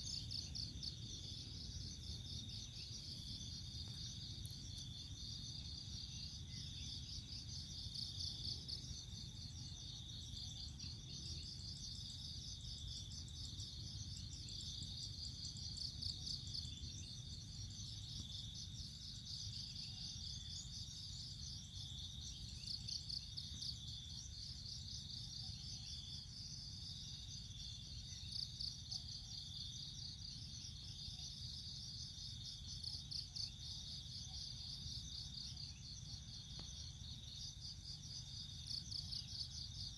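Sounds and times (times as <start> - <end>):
chorus of chirring insects: 0.0 - 39.9.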